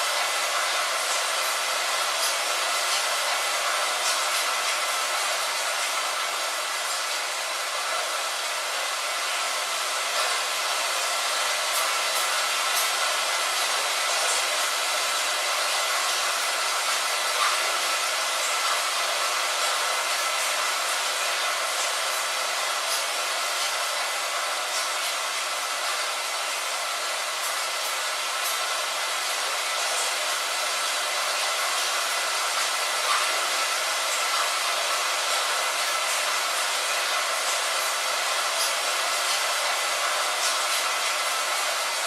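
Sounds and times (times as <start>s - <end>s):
rain falling: 0.0s - 42.0s.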